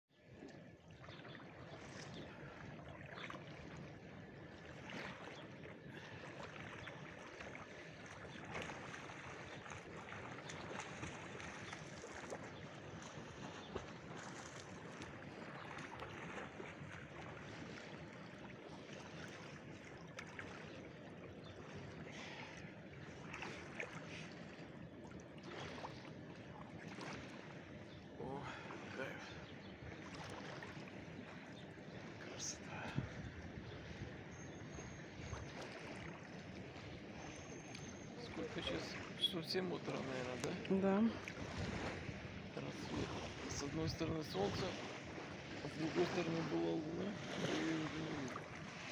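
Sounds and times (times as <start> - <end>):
sea water lapping: 0.1 - 48.9.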